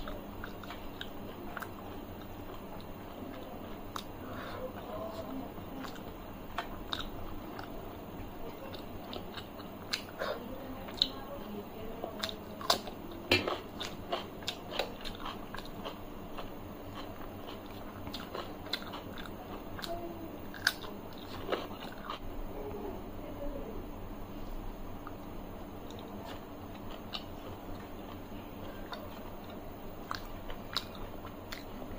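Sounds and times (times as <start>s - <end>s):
person chewing crunchy food: 0.0s - 7.8s, 8.6s - 11.2s, 12.2s - 22.3s, 24.9s - 31.9s.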